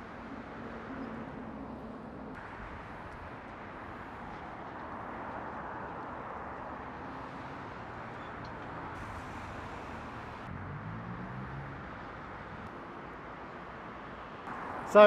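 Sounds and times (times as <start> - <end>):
passing vehicle engine hum: 0.0 - 15.0
road traffic noise: 0.0 - 15.0.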